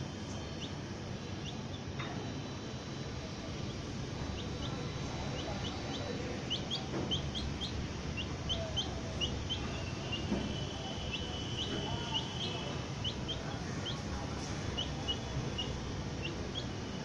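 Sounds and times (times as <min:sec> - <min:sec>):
baby chicks peeping: 0:00.0 - 0:17.0
low background noise: 0:00.0 - 0:17.0.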